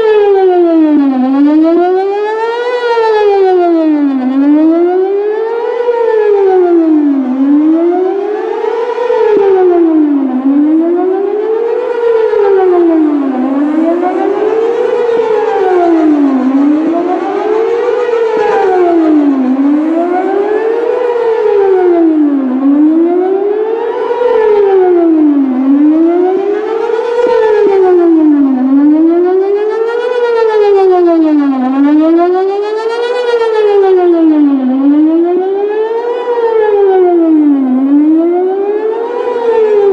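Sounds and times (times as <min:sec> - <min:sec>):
warning siren wail: 0:00.0 - 0:39.9.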